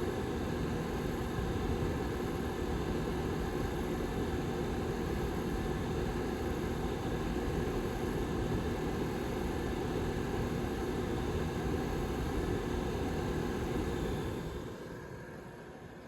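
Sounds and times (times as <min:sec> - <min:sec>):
heater fan whirring: 0:00.0 - 0:16.0.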